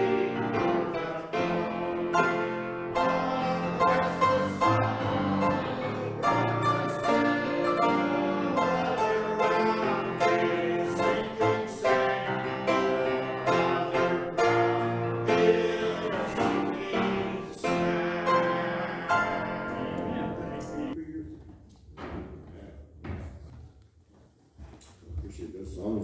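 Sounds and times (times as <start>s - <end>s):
piano accompaniment: 0.0s - 21.0s
hymn singing: 0.0s - 21.5s.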